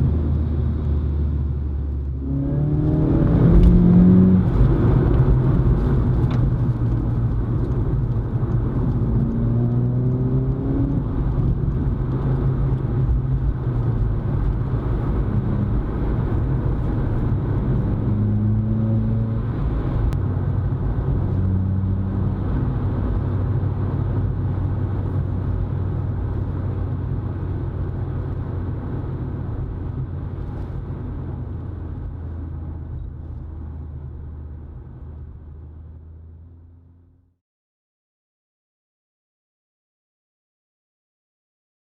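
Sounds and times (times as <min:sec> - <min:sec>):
car engine drone from inside: 0:00.0 - 0:37.4.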